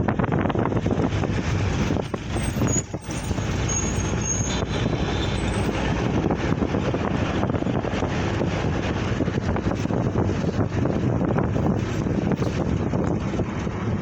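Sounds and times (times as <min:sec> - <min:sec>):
road traffic noise: 0:00.0 - 0:14.0
wind on microphone: 0:00.0 - 0:14.0.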